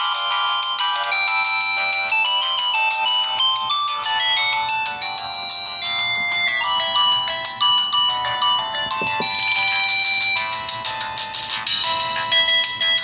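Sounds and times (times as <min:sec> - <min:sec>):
phone polyphonic ringtone: 0:00.0 - 0:13.0.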